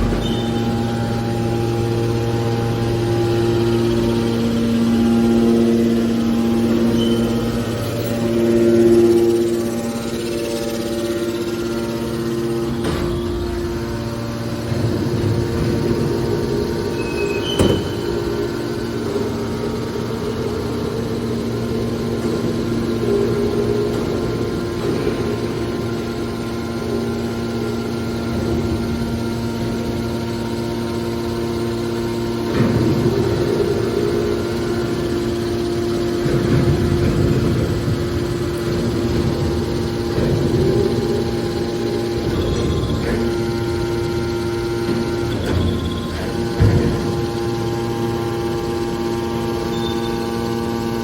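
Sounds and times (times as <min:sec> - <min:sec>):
hydraulic baler humming: 0:00.0 - 0:51.0.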